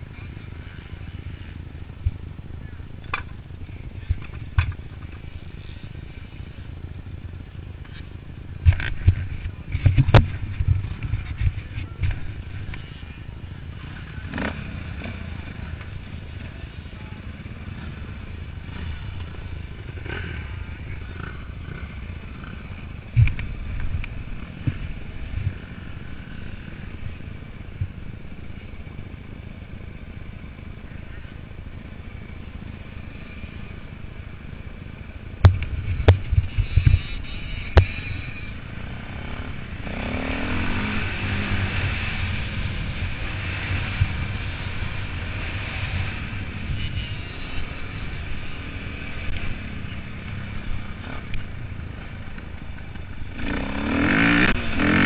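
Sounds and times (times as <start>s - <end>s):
motorcycle engine rumbling: 0.0s - 55.0s.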